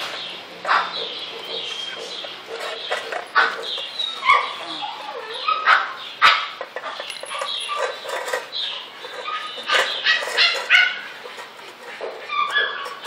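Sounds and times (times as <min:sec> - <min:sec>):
dogs barking: 0:00.6 - 0:08.4, 0:09.0 - 0:13.0.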